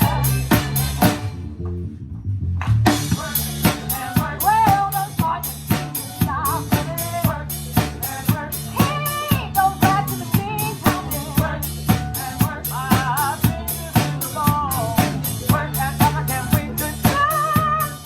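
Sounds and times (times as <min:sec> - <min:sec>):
drum kit playing a beat: 0:00.0 - 0:01.6, 0:02.6 - 0:18.0
live band bass and melody: 0:00.0 - 0:18.0.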